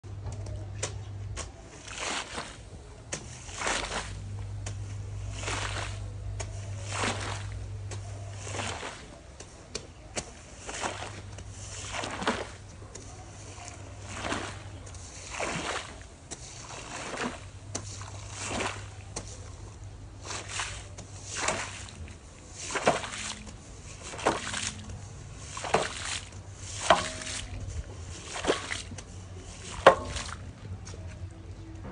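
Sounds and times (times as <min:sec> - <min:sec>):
low steady hum: 0:00.0 - 0:31.9
squeegee scraping wet rug: 0:00.8 - 0:31.1.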